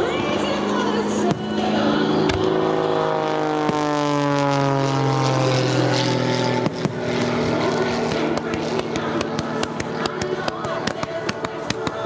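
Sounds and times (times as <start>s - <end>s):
propeller airplane passing by: 0.0s - 12.0s.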